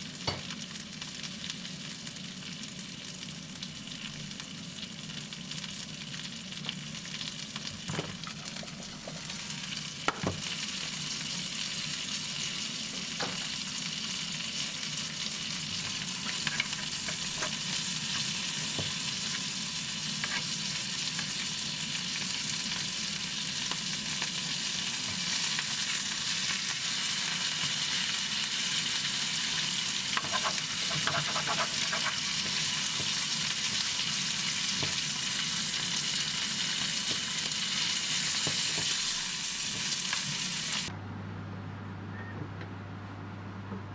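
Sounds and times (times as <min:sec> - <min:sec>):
food sizzling in frying pan: 0:00.0 - 0:40.9.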